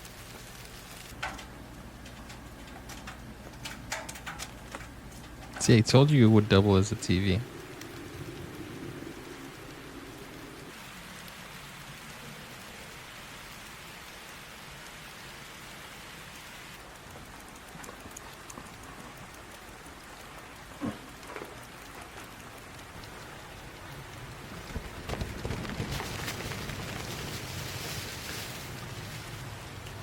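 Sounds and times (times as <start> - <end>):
snowstorm hiss: 0.0 - 30.0.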